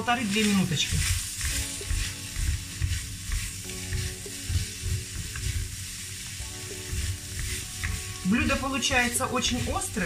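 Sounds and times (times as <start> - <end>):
food sizzling in a wok: 0.0 - 10.0
wooden spatula knocking and scraping: 0.0 - 10.0.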